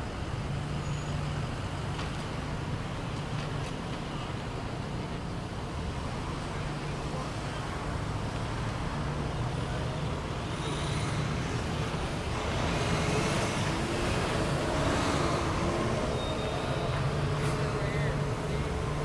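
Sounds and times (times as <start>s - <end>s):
traffic engines rumbling: 0.0s - 19.0s.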